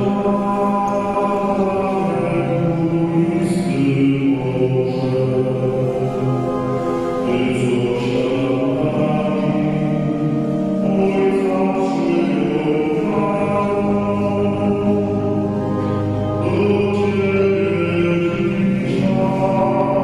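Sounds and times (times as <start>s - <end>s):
slow chant-like church music: 0.0s - 20.0s.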